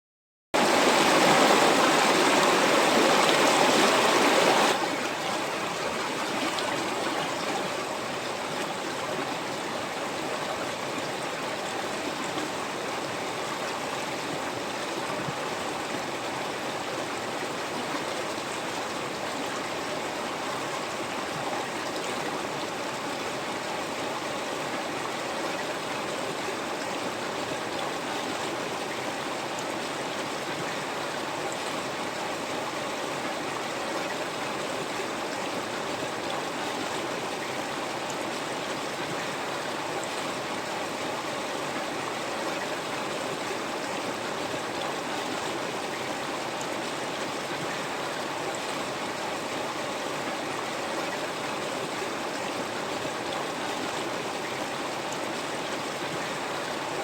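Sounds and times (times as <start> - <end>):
river water flowing: 0.6 - 57.0.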